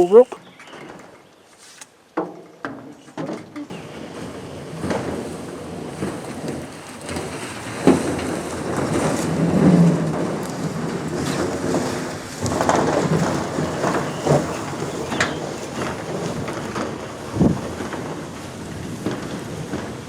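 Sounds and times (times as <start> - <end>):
wooden coop dragged over ground: 2.6 - 20.0.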